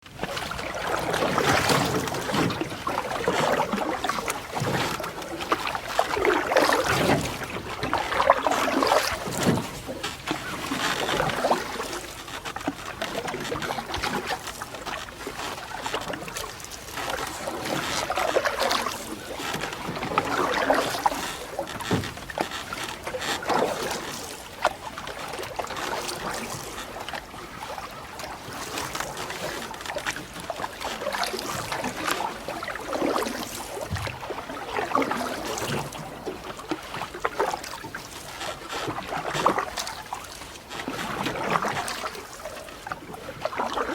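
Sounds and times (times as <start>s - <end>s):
water swishing against canoe hull: 0.0s - 43.9s.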